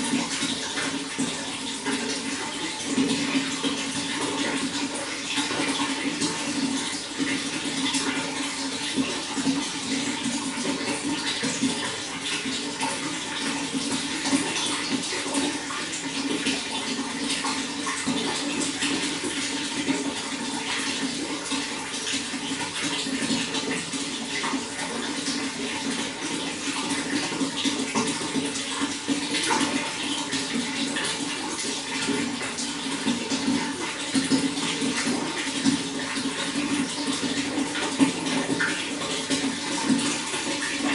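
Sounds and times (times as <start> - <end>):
running water splashing: 0.0 - 40.9.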